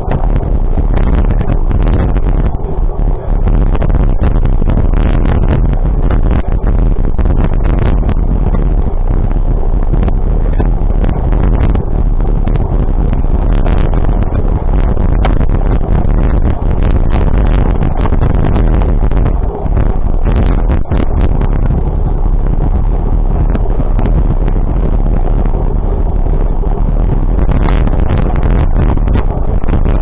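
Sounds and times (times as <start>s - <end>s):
low vehicle rumble: 0.0s - 30.0s
wind buffeting microphone: 0.0s - 30.0s.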